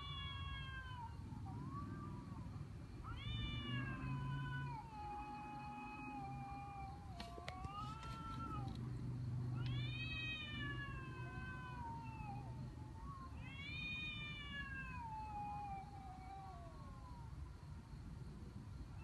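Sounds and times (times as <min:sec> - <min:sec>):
cats yowling: 0:00.0 - 0:08.9, 0:09.5 - 0:17.4.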